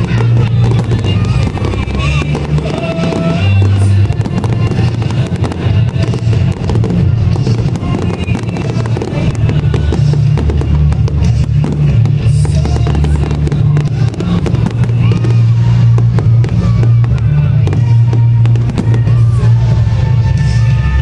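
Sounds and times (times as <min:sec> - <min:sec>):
fireworks bursting and crackling: 0:00.0 - 0:21.0
loud music with heavy bass: 0:00.0 - 0:21.0.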